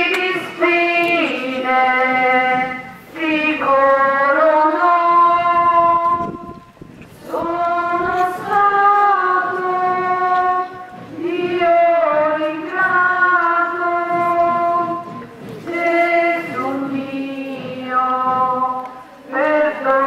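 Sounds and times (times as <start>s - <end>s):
voices singing a hymn: 0.0s - 20.0s.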